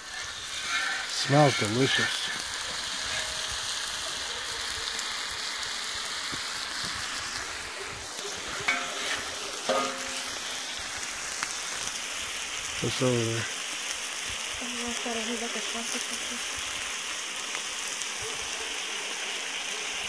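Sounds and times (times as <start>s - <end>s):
meat and onions sizzling: 0.0s - 20.0s.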